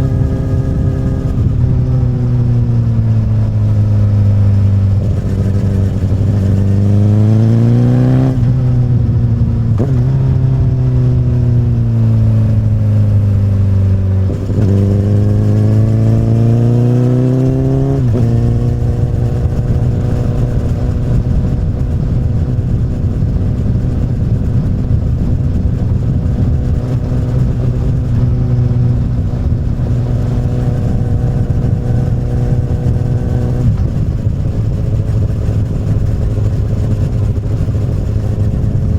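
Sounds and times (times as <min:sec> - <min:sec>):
motorcycle engine revving and shifting: 0:00.0 - 0:38.9.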